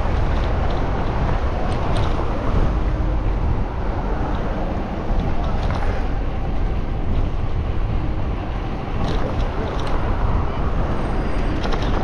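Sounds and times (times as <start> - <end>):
road and traffic rumble: 0.0 - 12.0
wind buffeting microphone: 0.0 - 12.0.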